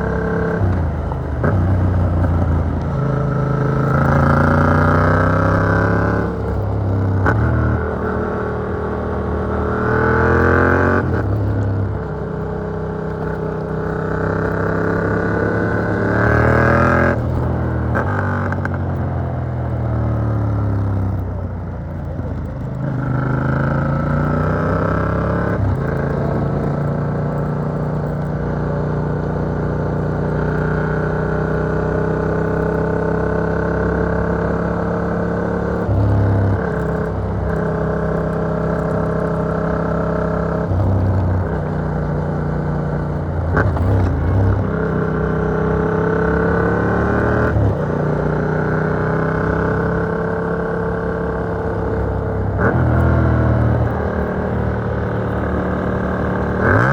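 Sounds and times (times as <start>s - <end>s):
muffled motorcycle engine revving: 0.0s - 56.9s.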